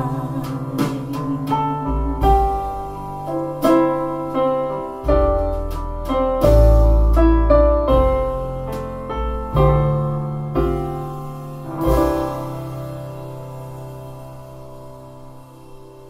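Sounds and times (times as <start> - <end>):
deep bass notes: 0.0 - 16.0
piano music: 0.0 - 16.0.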